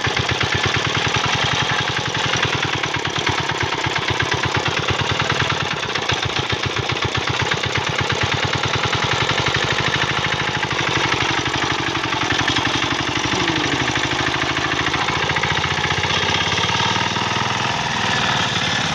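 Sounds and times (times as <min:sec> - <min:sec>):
diesel engine running steadily: 0:00.0 - 0:18.9.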